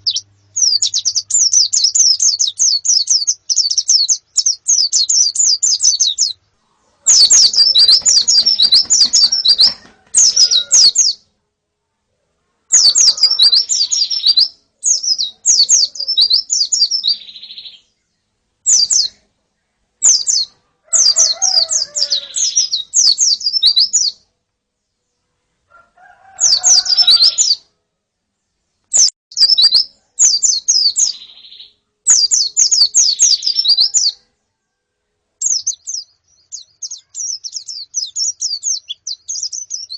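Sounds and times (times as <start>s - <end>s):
birds twittering: 0.0s - 11.3s, 12.7s - 24.3s, 26.2s - 27.6s, 28.9s - 34.3s, 35.4s - 39.9s.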